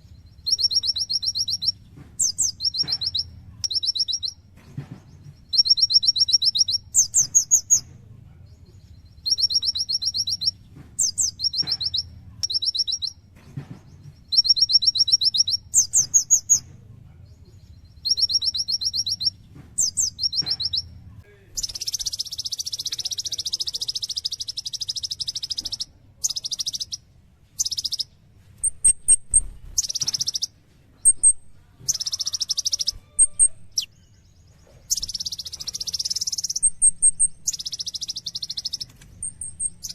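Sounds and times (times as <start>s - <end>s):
sunbird trilling song: 0.0s - 7.9s, 8.5s - 16.7s, 17.3s - 39.9s
bird high chirps: 0.0s - 39.9s.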